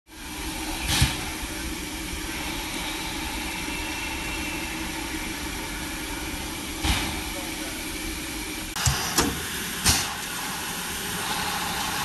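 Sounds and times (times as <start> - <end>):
steam locomotive hissing steam: 0.1 - 12.0.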